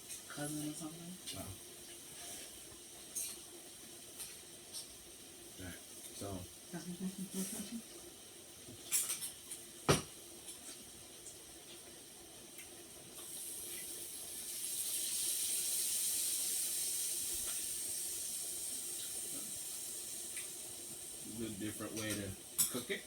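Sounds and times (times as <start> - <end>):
food hissing in hot pot: 0.0 - 23.0.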